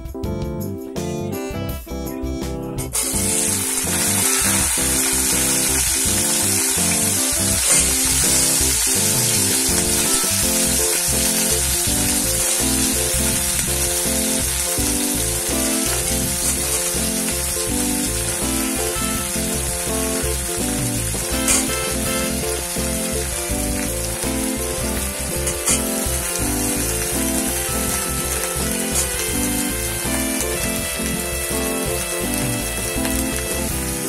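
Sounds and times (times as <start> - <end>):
background music: 0.0 - 34.0
okra sizzling in hot oil: 3.0 - 34.0.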